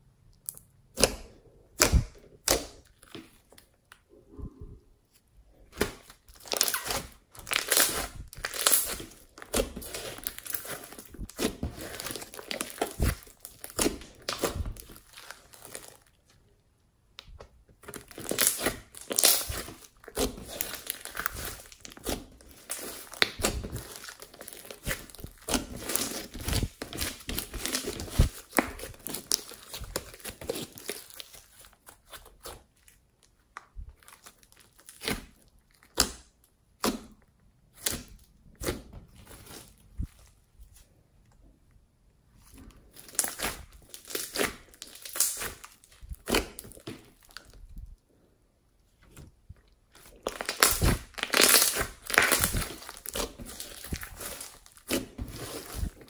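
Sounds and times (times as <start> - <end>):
hands squishing slime: 0.4 - 4.6, 5.5 - 16.3, 17.1 - 40.8, 42.4 - 47.9, 49.1 - 56.0.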